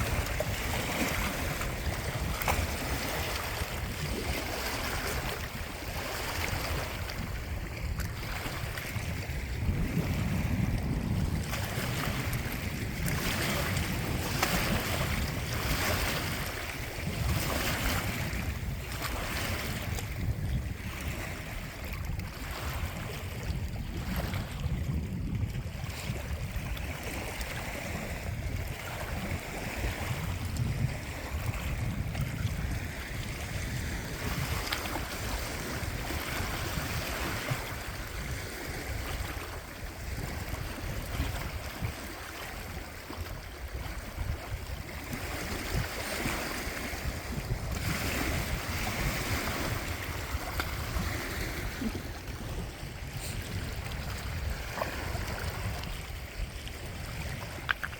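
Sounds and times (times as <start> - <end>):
water splashing and lapping: 0.0 - 57.9
wind rumbling on microphone: 0.0 - 57.9.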